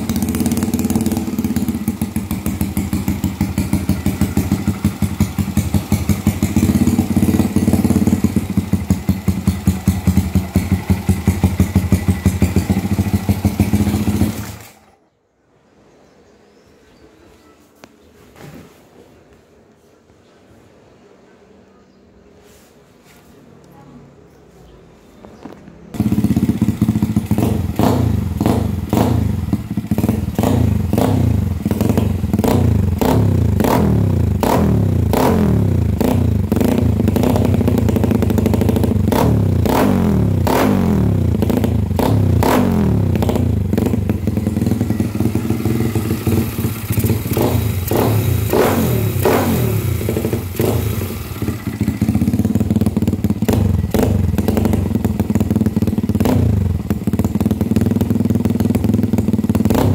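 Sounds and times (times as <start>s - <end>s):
motorcycle engine revving: 0.0s - 15.0s, 25.4s - 59.9s.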